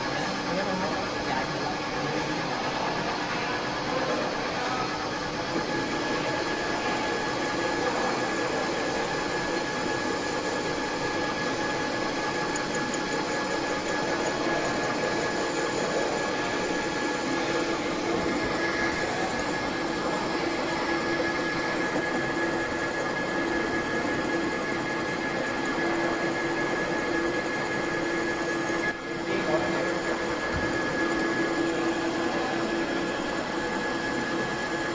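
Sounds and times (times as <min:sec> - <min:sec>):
metal lathe humming and whining: 0:00.0 - 0:34.9.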